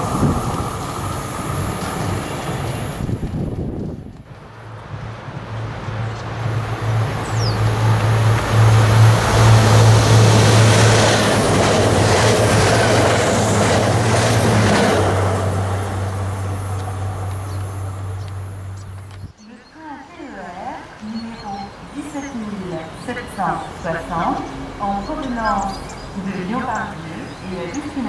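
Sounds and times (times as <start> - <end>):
wheels clacking on rails: 0.0 - 19.7, 20.6 - 28.0
passenger train passing: 0.0 - 28.0.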